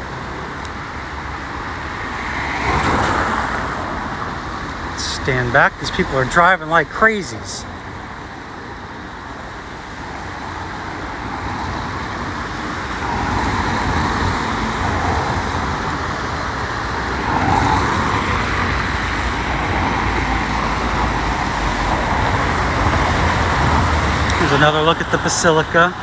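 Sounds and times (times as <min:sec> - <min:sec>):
traffic on wet road: 0:00.0 - 0:26.0.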